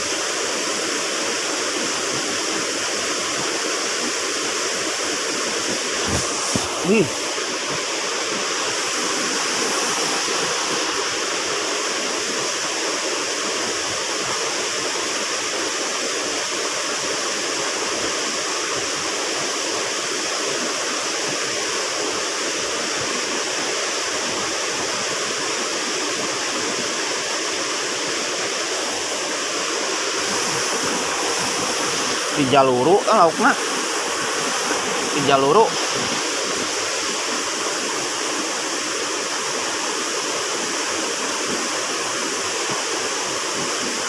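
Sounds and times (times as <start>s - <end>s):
river water flowing: 0.0s - 44.0s.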